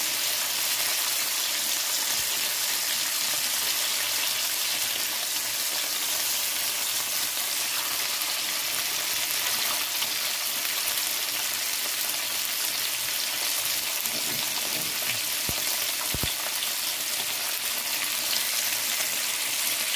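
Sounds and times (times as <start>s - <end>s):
fish sizzling in hot oil: 0.0s - 19.9s.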